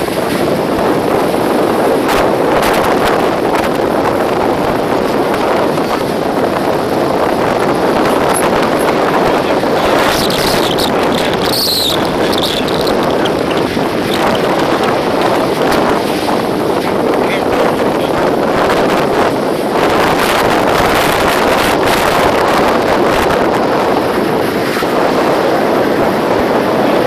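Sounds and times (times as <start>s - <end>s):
strong wind on microphone: 0.0s - 27.0s.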